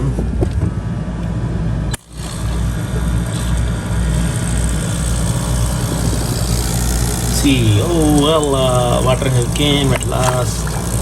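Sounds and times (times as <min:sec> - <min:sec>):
coffee machine pump buzzing: 0:00.4 - 0:11.0.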